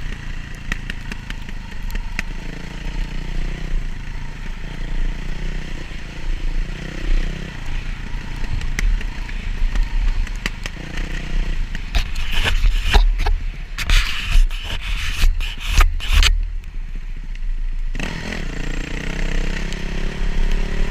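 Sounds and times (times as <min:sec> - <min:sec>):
dirt bike engine running: 0:00.0 - 0:20.9.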